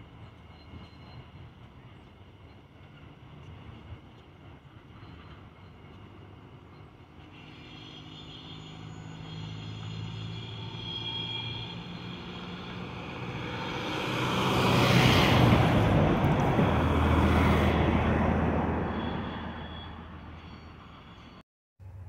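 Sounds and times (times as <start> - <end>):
locomotive engine hum: 0.0 - 22.0
wheels rushing on rails: 0.0 - 22.0.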